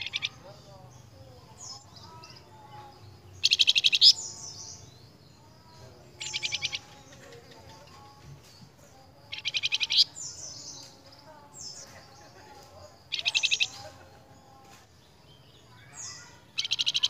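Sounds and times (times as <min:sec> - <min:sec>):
songbird trills: 0:00.0 - 0:17.0.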